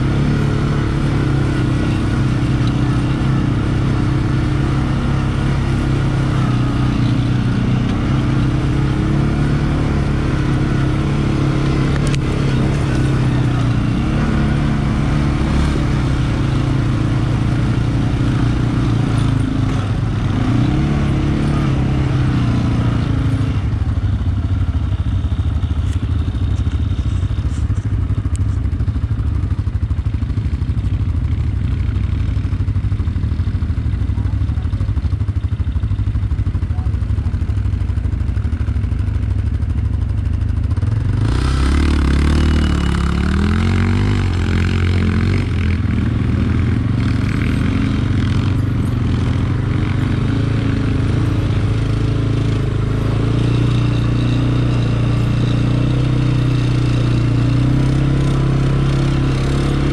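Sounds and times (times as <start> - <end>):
quad bike engine under load: 0.0 - 59.9.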